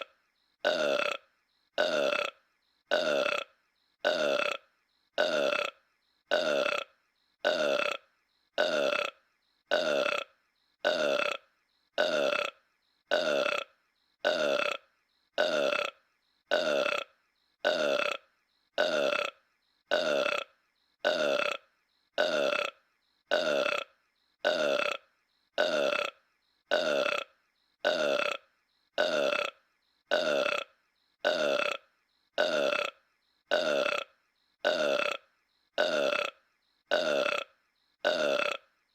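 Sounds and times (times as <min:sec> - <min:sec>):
cartoon burp: 0:00.0 - 0:38.8.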